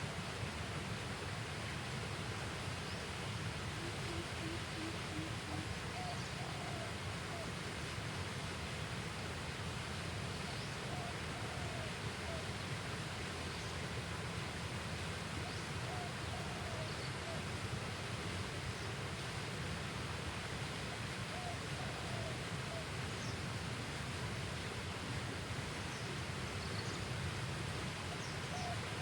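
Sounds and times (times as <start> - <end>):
riverside ambience hiss: 0.0 - 29.0.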